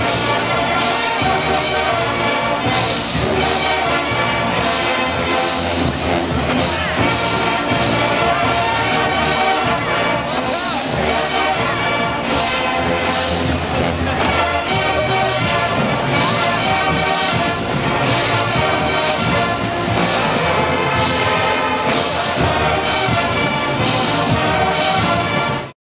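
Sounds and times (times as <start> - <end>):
brass band playing: 0.0 - 25.8.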